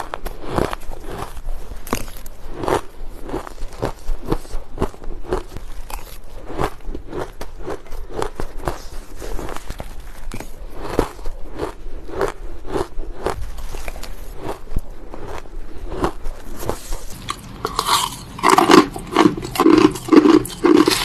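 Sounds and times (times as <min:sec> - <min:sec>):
crushed ice being chewed: 0:00.0 - 0:21.0.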